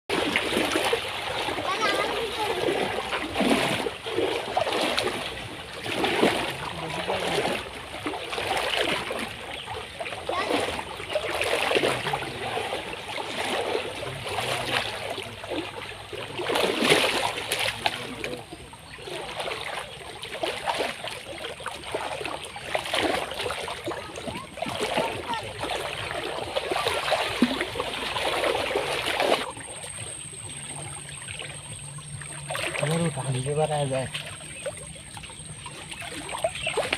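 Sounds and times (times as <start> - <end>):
splashing through muddy water: 0.1 - 36.9.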